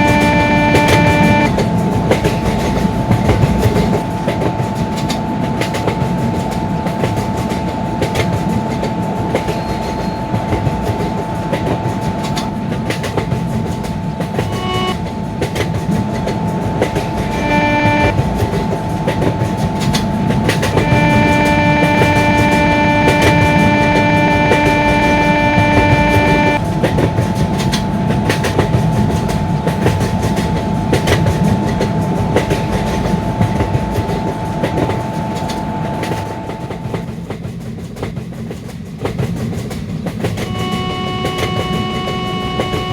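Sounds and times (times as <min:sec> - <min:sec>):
train rushing rumble: 0:00.0 - 0:42.9.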